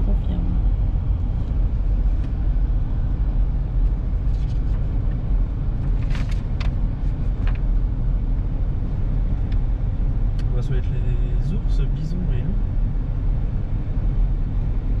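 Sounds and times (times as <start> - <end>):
car interior low rumble: 0.0 - 15.0.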